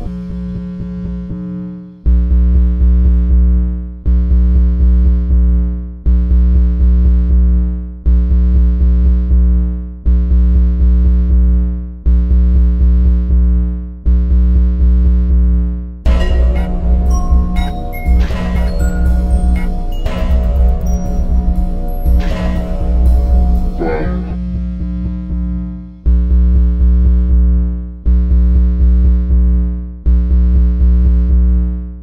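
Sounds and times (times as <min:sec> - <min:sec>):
electronic music with deep bass: 0:00.0 - 0:32.0.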